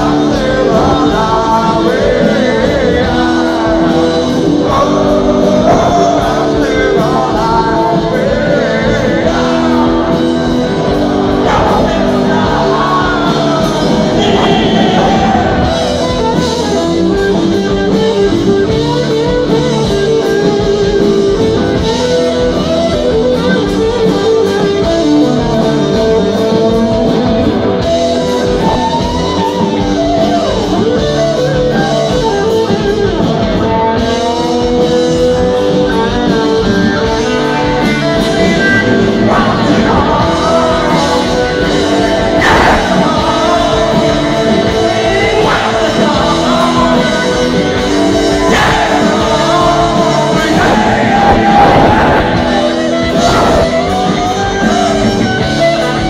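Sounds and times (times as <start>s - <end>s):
person singing into a microphone: 0.0s - 27.2s, 28.2s - 56.0s
drums: 0.0s - 56.0s
electric guitar: 0.0s - 56.0s.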